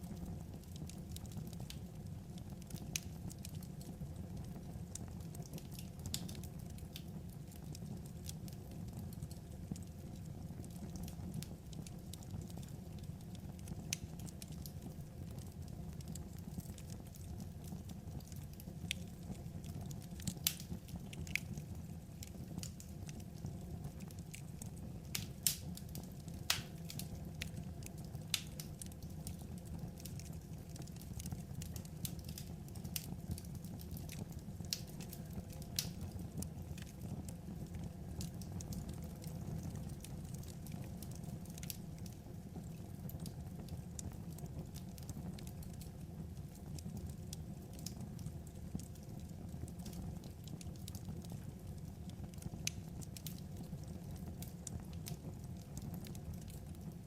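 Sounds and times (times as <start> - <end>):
fire popping: 0.0 - 57.0
wood fire burning: 0.0 - 57.0.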